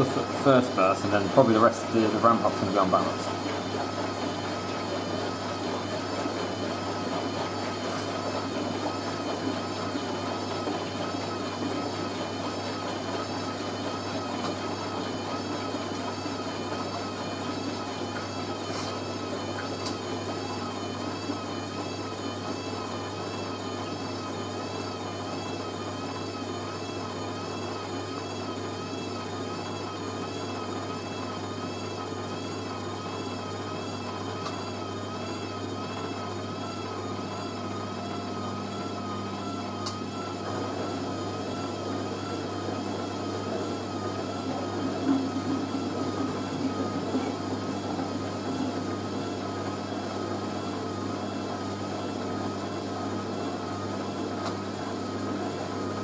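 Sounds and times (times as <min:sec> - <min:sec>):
washing machine motor humming: 0:00.0 - 0:56.0.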